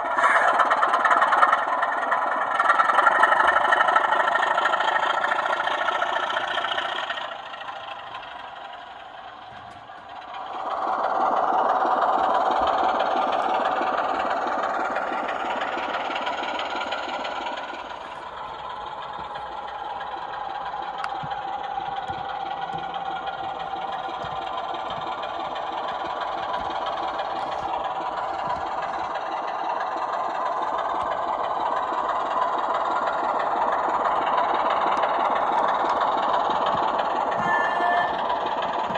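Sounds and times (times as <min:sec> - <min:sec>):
diesel engine sound from small speakers: 0:00.0 - 0:38.9.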